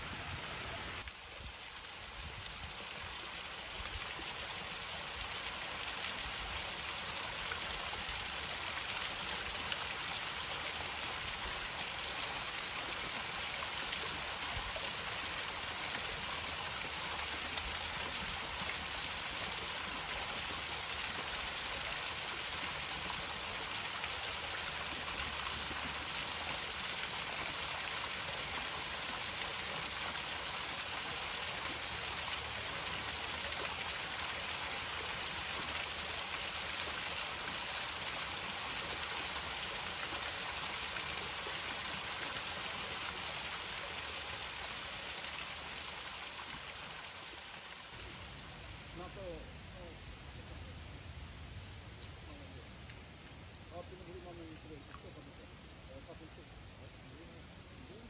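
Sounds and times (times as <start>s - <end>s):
water rushing: 0.0s - 50.1s.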